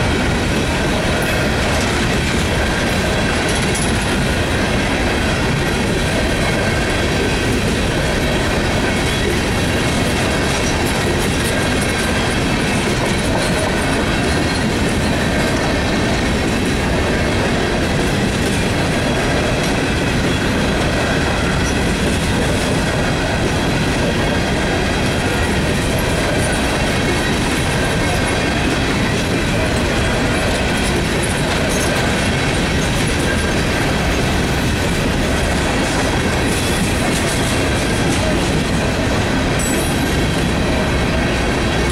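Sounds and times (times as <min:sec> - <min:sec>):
steel wheels rumbling on rail: 0:00.0 - 0:41.9.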